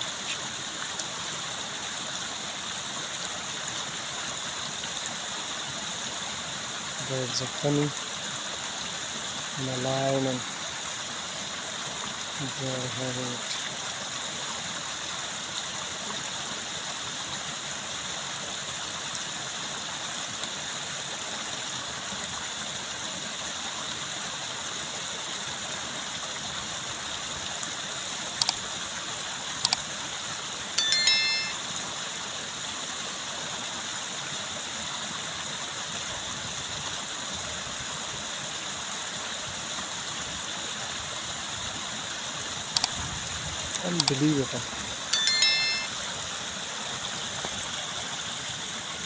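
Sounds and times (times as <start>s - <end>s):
running water rushing: 0.0s - 49.0s.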